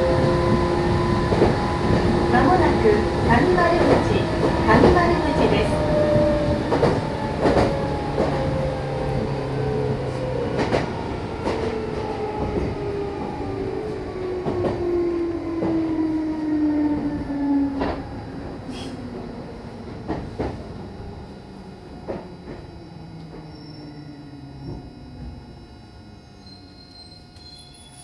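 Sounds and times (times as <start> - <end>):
electric train motor whine: 0.0 - 28.0.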